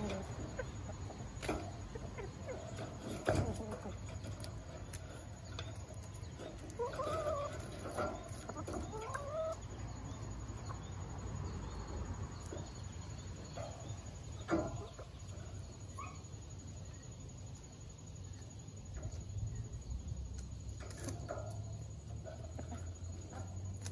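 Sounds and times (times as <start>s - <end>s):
hens clucking: 0.0s - 23.9s.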